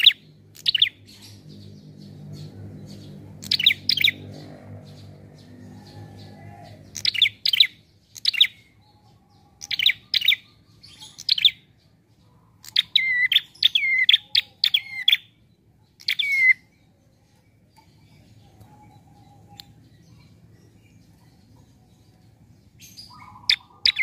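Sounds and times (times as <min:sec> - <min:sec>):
bird chirping: 0:00.0 - 0:24.0.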